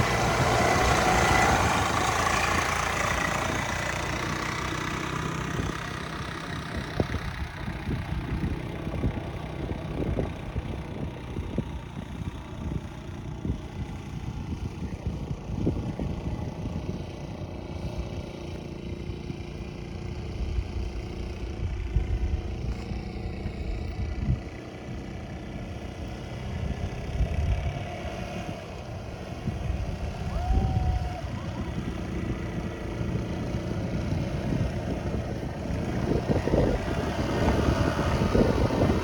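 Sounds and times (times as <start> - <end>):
quad bike engine running: 0.0 - 39.0.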